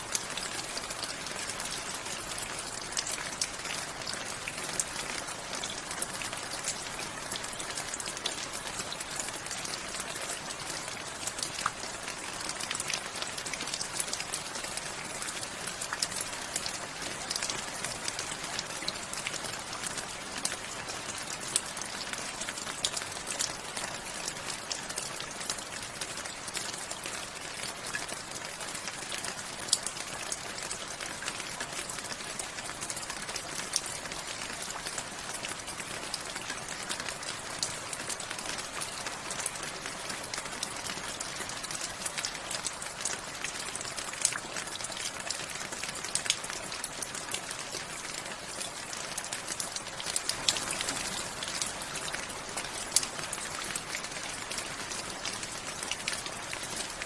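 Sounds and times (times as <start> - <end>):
raindrops ticking on surfaces: 0.0 - 57.0.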